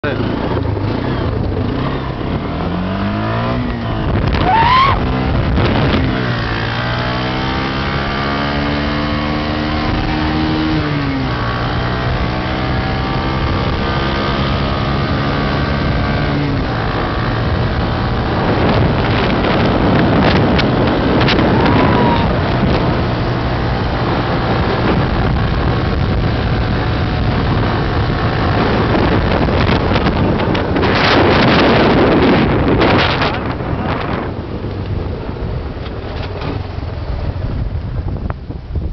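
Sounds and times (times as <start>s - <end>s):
motorcycle engine accelerating: 0.0s - 38.9s
wind buffeting microphone: 0.0s - 38.9s.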